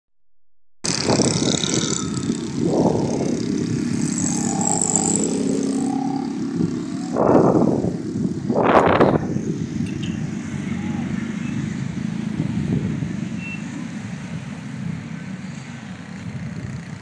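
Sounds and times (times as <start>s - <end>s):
cars and motorcycles driving past: 0.8s - 17.0s.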